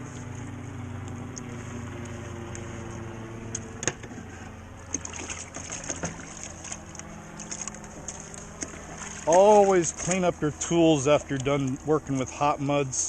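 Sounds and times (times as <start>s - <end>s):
low hum: 0.0s - 13.0s
water sloshing: 0.0s - 13.0s.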